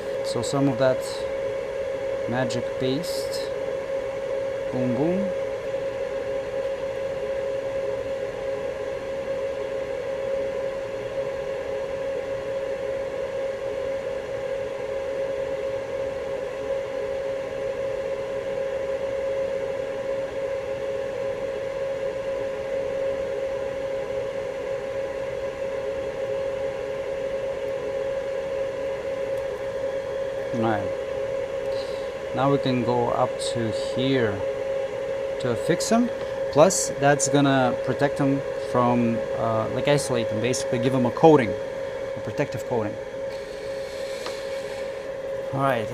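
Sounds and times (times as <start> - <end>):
hot air station fan whine: 0.0 - 45.9.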